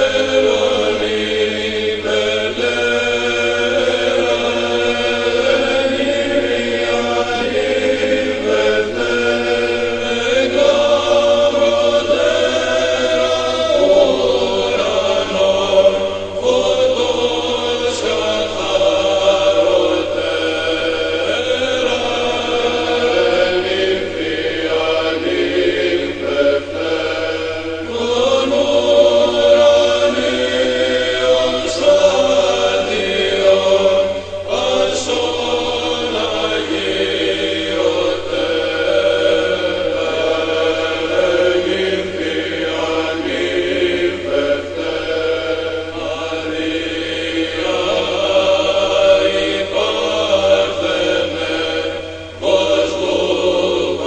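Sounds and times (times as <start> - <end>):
choir chanting long notes: 0.0 - 54.0
low drone: 0.0 - 54.0.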